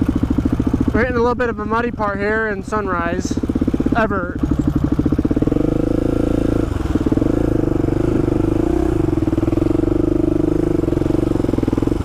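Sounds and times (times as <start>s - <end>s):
quad engine running: 0.0s - 12.0s.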